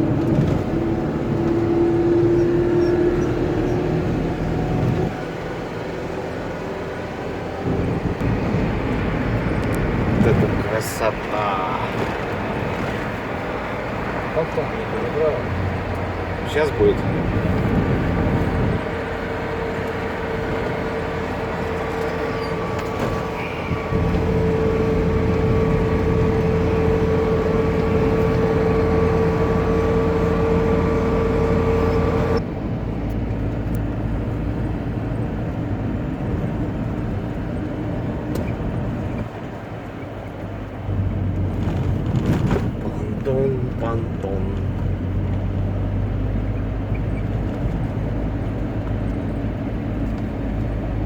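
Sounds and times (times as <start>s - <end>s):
car engine and tyre noise: 0.0s - 51.0s.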